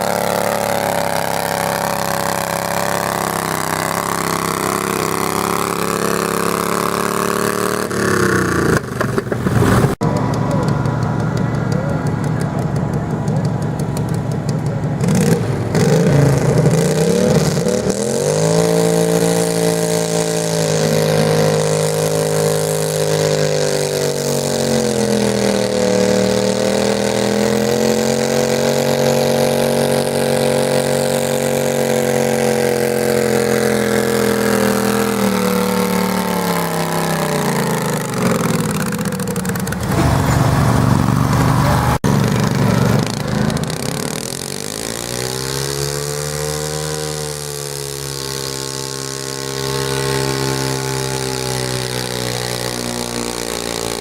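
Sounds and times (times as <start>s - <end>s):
tractor engine revving: 0.0s - 54.0s.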